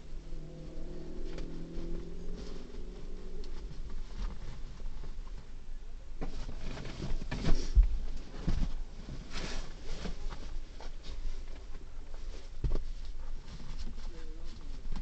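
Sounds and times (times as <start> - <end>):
rustling inside a car: 0.1 - 15.0.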